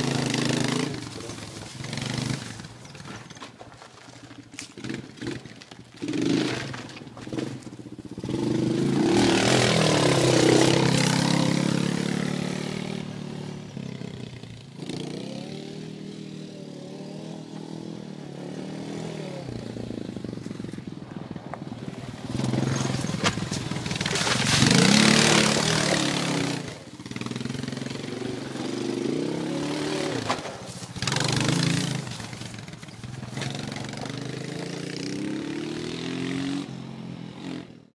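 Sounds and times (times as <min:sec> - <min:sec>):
atv engine revving: 0:00.0 - 0:37.9.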